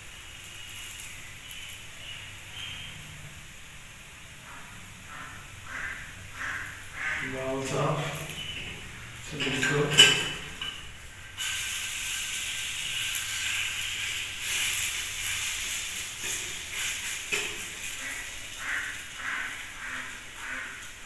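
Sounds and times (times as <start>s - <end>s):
pancake sizzling in frying pan: 0.0s - 4.5s, 5.5s - 21.0s.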